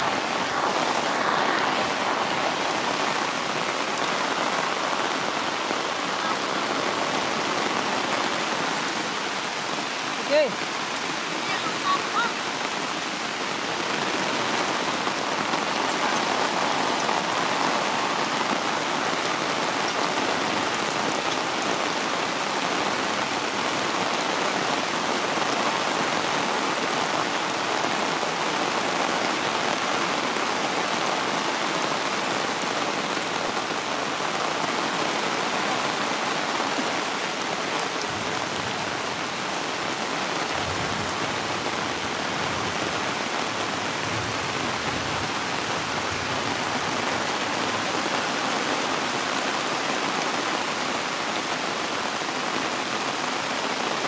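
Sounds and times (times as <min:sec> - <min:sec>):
heavy rain on concrete: 0:00.0 - 0:54.0.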